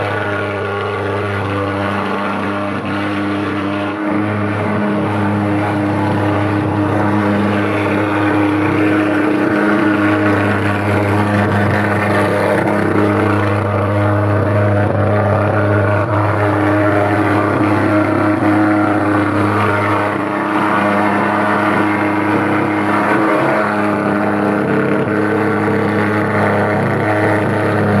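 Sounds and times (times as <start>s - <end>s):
fogging machine engine drone: 0.0s - 28.0s.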